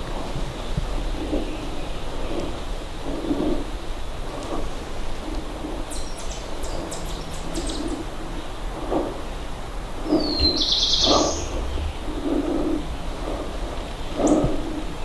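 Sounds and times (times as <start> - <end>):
wind rumble on microphone: 0.0 - 15.0
songbirds calling: 0.5 - 2.6, 4.6 - 15.0.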